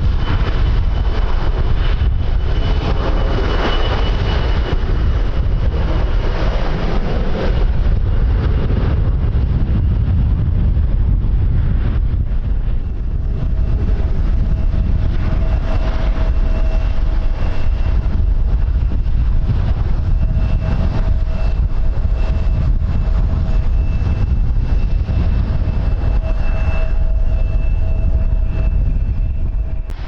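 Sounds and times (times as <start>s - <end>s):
aircraft engines whining: 0.0s - 30.0s
wind buffeting microphone: 0.0s - 30.0s.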